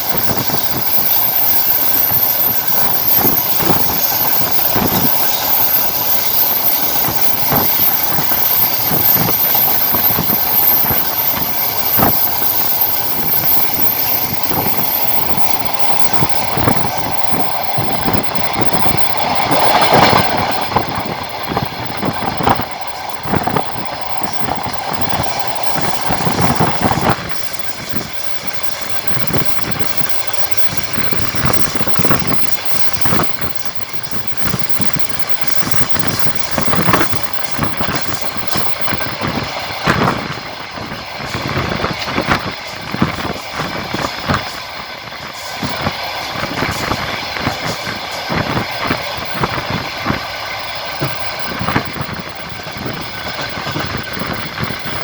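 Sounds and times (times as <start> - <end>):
high steady whine: 0.0 - 55.0
train wheels clacking on rails: 0.0 - 55.0.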